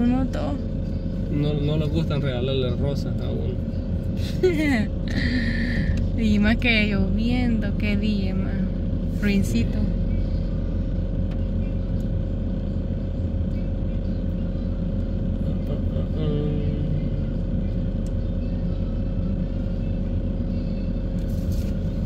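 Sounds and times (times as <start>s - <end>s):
car engine hum: 0.0s - 22.0s
road noise: 0.0s - 22.0s.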